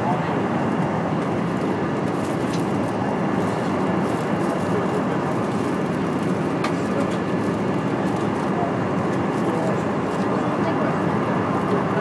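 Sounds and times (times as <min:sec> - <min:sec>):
aircraft cabin engine and airflow: 0:00.0 - 0:12.0.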